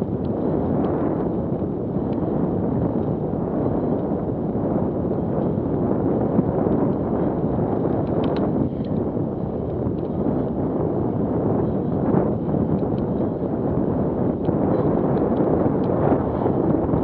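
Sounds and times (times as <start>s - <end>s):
bike tyres rumbling on rough track: 0.0s - 17.0s
wind buffeting microphone: 0.0s - 17.0s.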